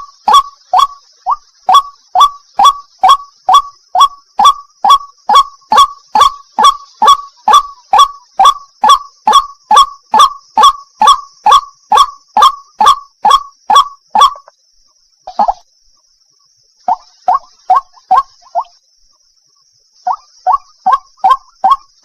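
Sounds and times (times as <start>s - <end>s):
waterhen calling: 0.0s - 14.5s, 16.9s - 18.7s, 20.1s - 22.0s.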